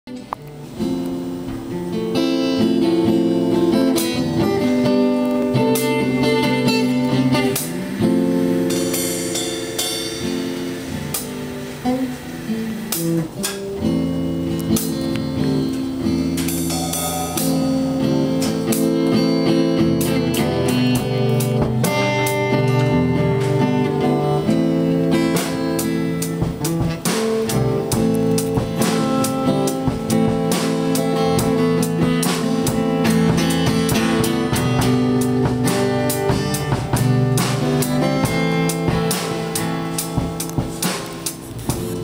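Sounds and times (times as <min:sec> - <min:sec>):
acoustic guitar: 0:00.1 - 0:42.0
electric bass guitar: 0:00.1 - 0:42.0.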